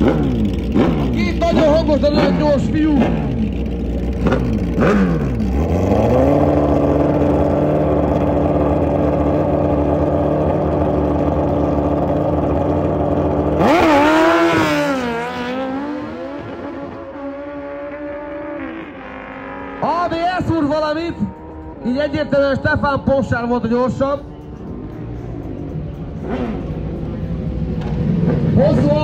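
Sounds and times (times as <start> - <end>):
motorcycle accelerating through gears: 0.0 - 29.0
motorcycle engine revving: 0.0 - 29.0.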